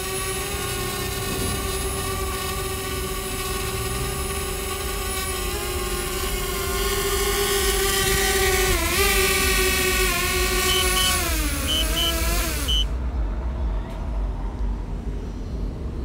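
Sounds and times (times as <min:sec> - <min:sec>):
drone propellers whining: 0:00.0 - 0:13.1.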